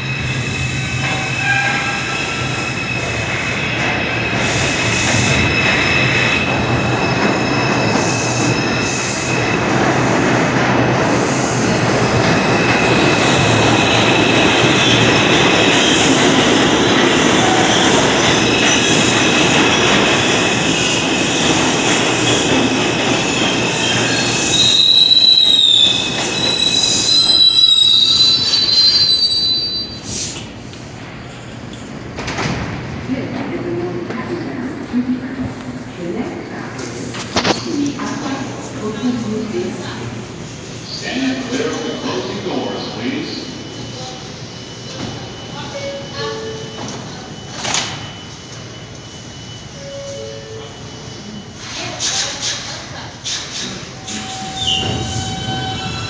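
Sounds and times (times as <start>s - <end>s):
high squealing brakes: 0.0s - 10.3s, 11.1s - 30.5s, 40.7s - 56.0s
subway train wheels roaring: 0.0s - 56.0s.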